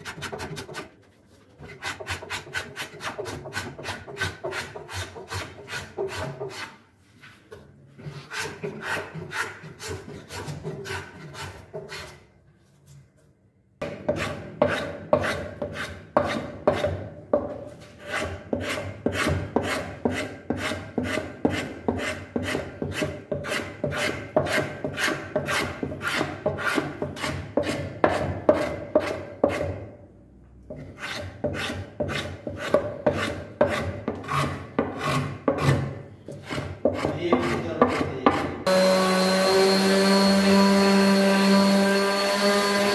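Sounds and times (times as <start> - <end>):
hand sanding wood: 0.0 - 12.2, 18.0 - 29.6, 31.0 - 42.9.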